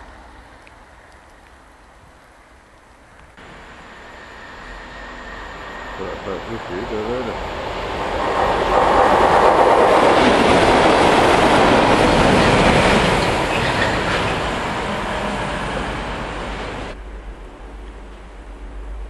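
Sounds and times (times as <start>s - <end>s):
diesel locomotive engine: 3.4s - 19.0s
train wheels on rails: 3.4s - 19.0s.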